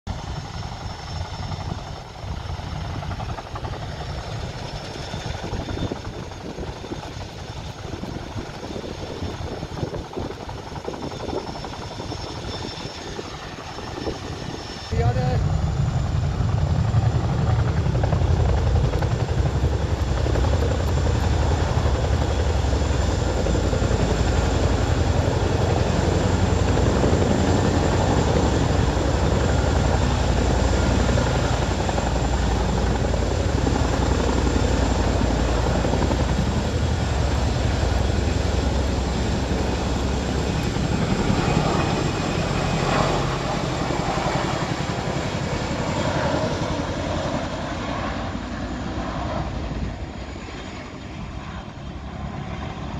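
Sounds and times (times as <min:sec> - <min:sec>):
helicopter rotors beating: 0:00.1 - 0:52.9.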